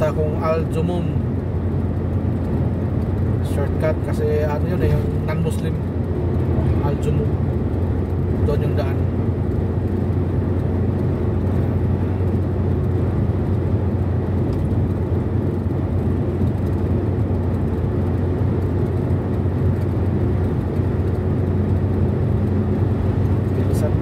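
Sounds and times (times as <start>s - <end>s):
road and engine noise in car: 0.0s - 24.0s.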